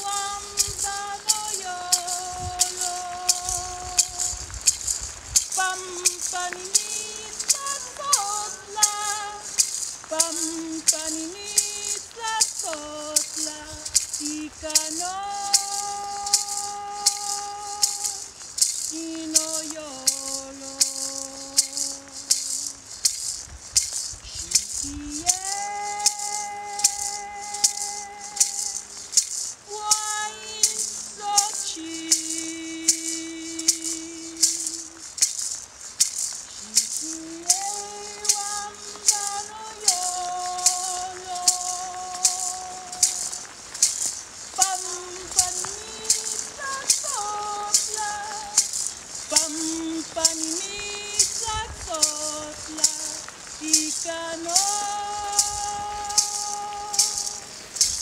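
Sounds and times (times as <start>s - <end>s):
woman singing long notes: 0.0s - 22.9s, 24.2s - 35.2s, 36.5s - 43.7s, 44.3s - 57.7s
gourd rattle beat: 0.0s - 58.0s.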